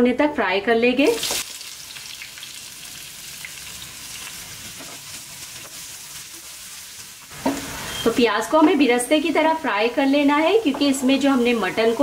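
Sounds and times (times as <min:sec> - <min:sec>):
onions sizzling in hot oil: 0:01.1 - 0:12.0.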